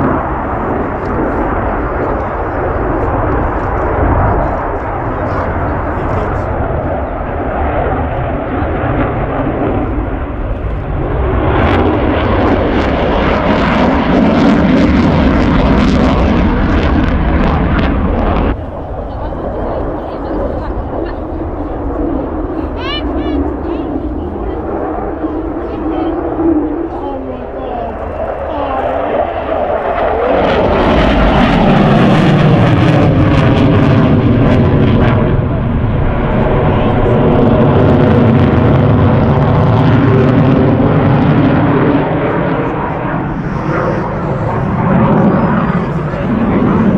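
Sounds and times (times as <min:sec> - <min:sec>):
jet engine roaring: 0:00.0 - 0:46.9.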